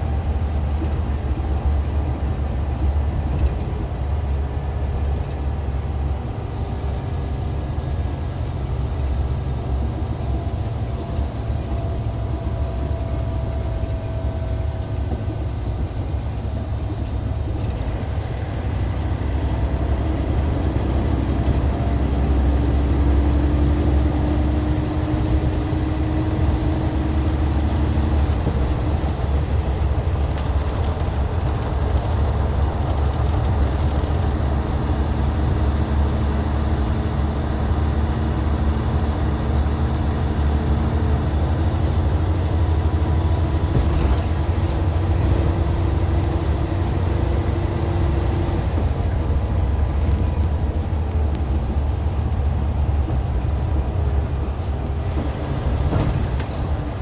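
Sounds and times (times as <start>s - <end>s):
diesel bus engine droning: 0.0s - 57.0s.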